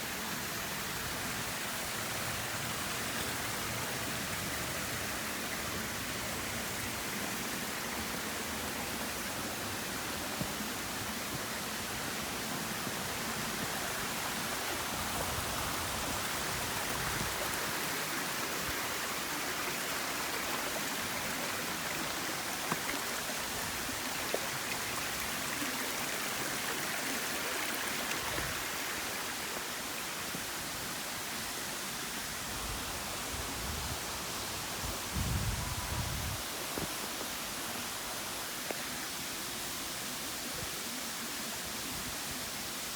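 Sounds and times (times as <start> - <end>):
water falling and flowing: 0.0 - 42.9.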